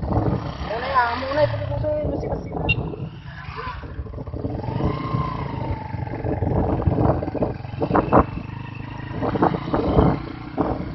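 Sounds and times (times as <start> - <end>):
motorbike engine rumbling: 0.0 - 10.9.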